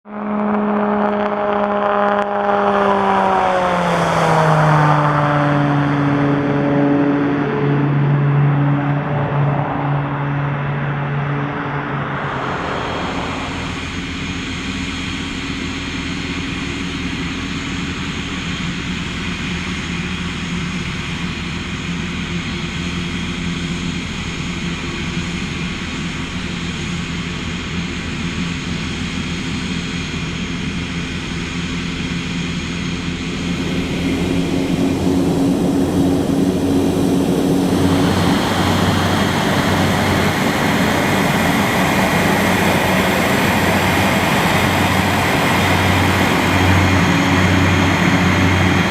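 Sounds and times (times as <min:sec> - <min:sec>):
turboprop engines running: 0:00.1 - 0:48.9.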